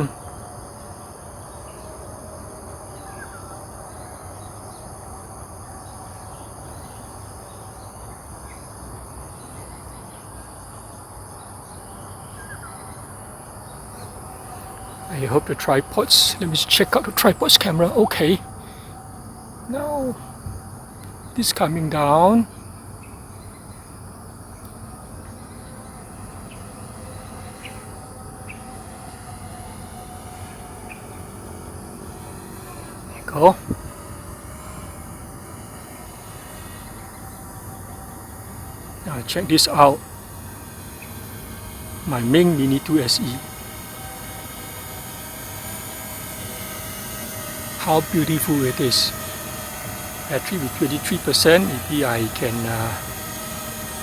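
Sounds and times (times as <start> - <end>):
insects chirring: 0.0 - 54.0
outdoor hum: 0.0 - 54.0.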